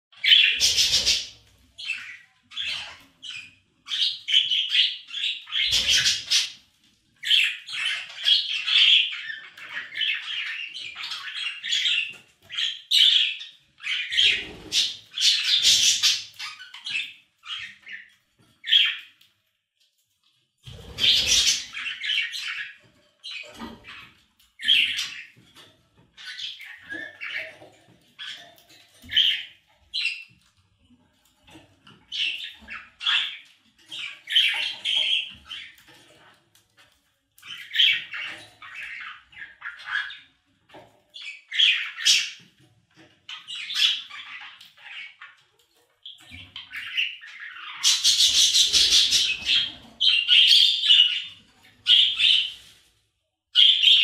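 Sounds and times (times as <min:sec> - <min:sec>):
budgerigars chirping and warbling: 0:00.1 - 0:19.2, 0:20.6 - 0:30.5, 0:31.4 - 0:36.4, 0:37.4 - 0:52.7, 0:53.6 - 0:54.0.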